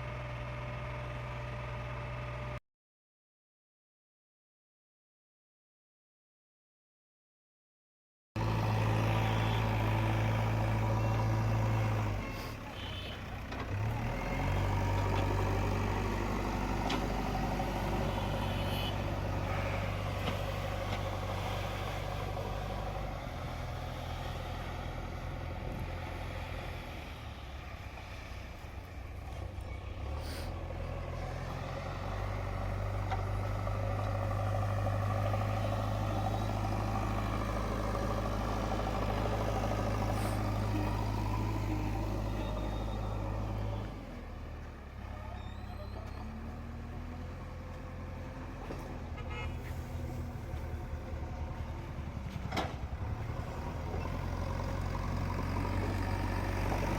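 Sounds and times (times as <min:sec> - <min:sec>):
diesel engine running: 0:08.4 - 0:56.9.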